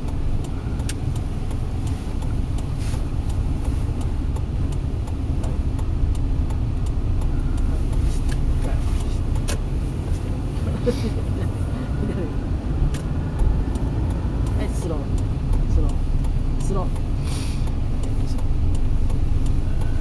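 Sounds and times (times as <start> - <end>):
faint ticks: 0.0 - 10.5, 12.5 - 20.0
car engine and road noise: 0.0 - 20.0.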